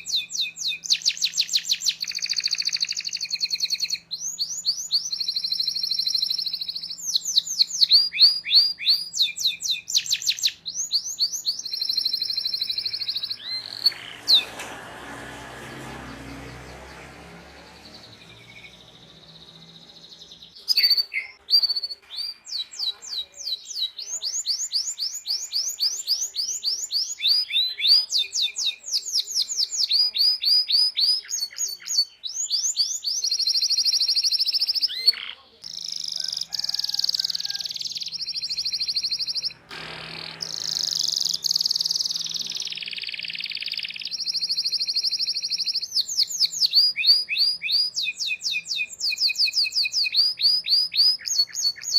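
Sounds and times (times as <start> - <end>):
canary singing: 0.0 - 51.9.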